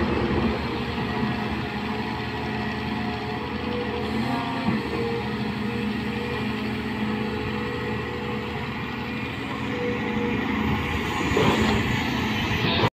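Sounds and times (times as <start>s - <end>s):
excavator diesel engine and hydraulics: 0.0s - 12.9s.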